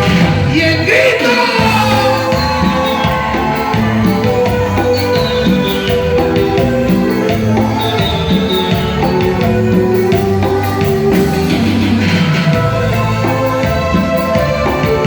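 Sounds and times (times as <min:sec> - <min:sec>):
drums steady beat: 0:00.0 - 0:15.0
guitar: 0:00.0 - 0:15.0
keyboard: 0:00.0 - 0:15.0.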